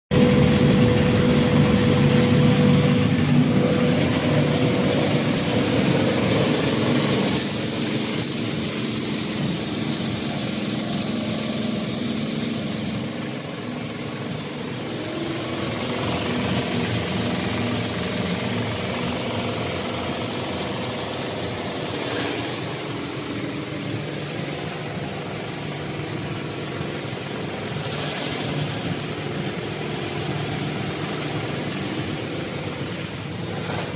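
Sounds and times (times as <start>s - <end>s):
abrasive grinding metal hiss: 1.2s - 33.9s.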